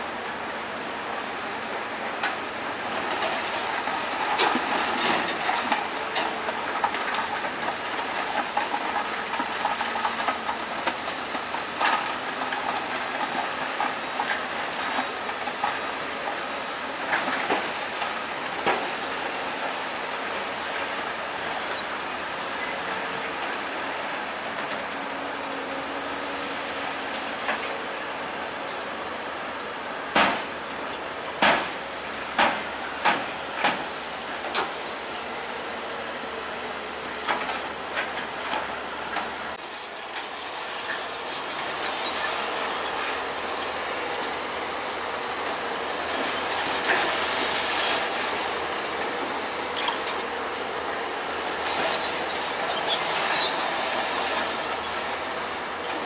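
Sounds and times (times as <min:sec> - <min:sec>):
bulldozer tracks and engine: 0:00.0 - 0:56.0.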